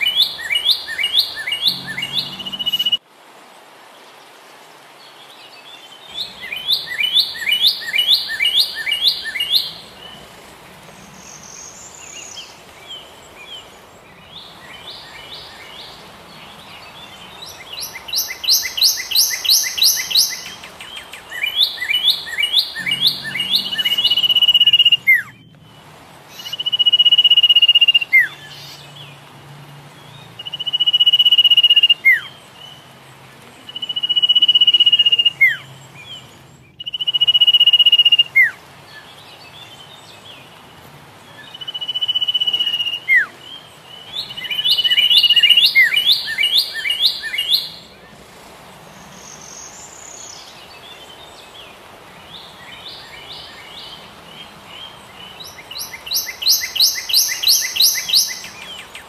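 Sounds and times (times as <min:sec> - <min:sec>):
songbird singing: 0:00.0 - 0:03.0, 0:03.8 - 0:59.0.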